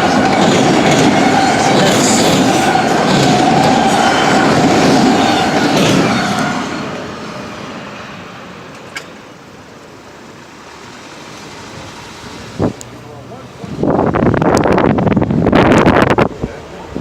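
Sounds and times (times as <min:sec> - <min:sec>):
freight train rumbling and clattering: 0:00.0 - 0:09.4, 0:11.4 - 0:17.0.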